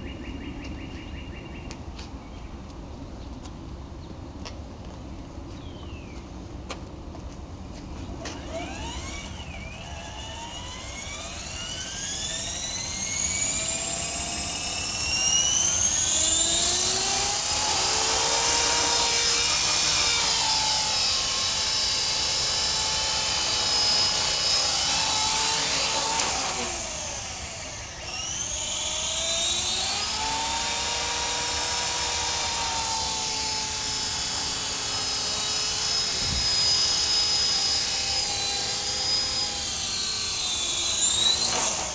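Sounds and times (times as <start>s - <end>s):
rc helicopter motor whine: 8.1s - 41.9s.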